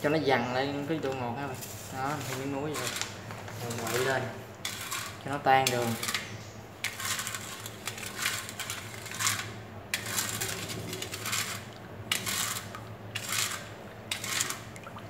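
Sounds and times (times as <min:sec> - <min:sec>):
plastic spoon scraping metal bowl: 0:01.0 - 0:14.8.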